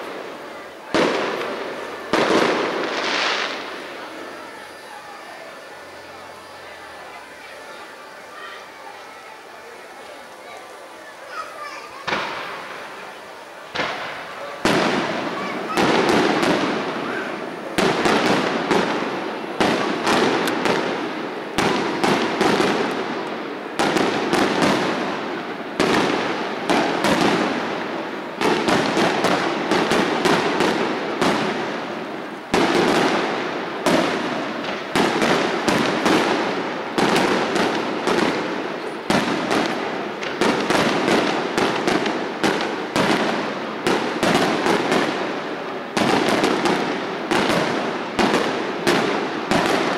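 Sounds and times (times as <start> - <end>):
fireworks bangs with echo: 0.0 - 49.9.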